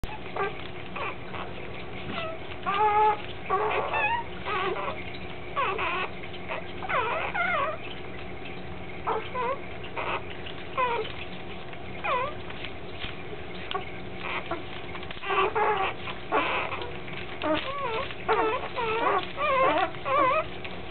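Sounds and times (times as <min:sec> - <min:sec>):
puppies squeaking and whining: 0:00.0 - 0:20.9.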